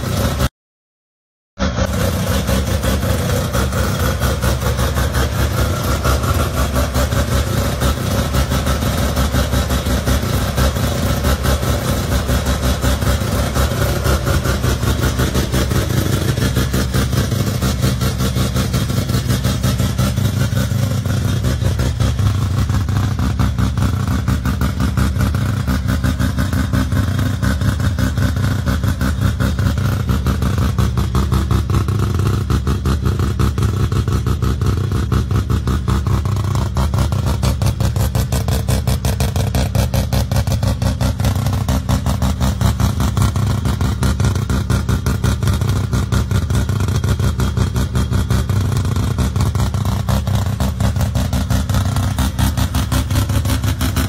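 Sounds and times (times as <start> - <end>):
car engine rapid pulsing exhaust: 0.0 - 0.5, 1.6 - 54.0.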